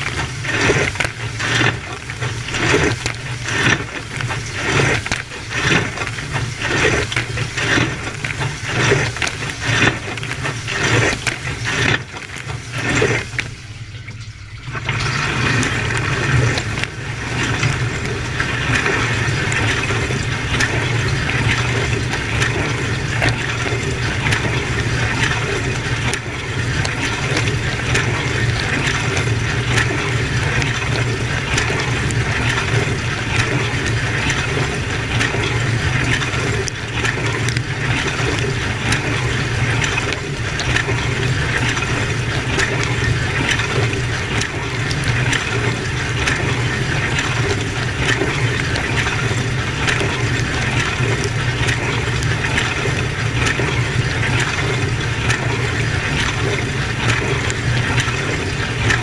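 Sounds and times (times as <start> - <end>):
pump humming: 0.0 - 59.0
water jets spraying dishes: 0.0 - 59.0.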